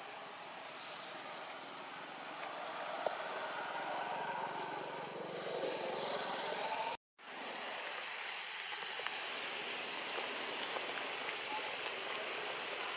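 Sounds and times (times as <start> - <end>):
outdoor background noise: 0.0 - 12.9.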